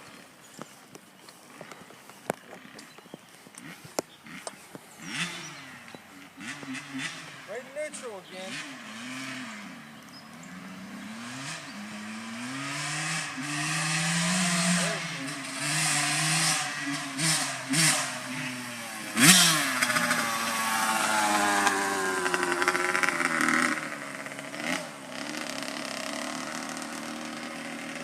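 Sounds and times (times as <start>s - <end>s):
dirt bike engine revving: 3.6s - 28.0s.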